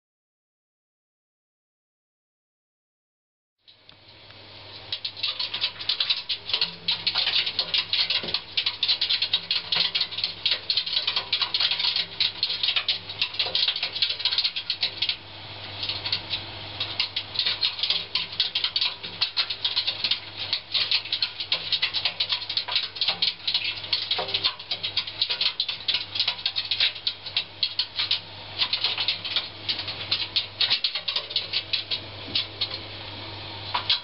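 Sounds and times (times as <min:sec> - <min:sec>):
claws clicking on metal drum: 0:04.8 - 0:32.9, 0:33.7 - 0:34.0
washing machine drum rattling: 0:04.8 - 0:33.0, 0:33.7 - 0:34.0.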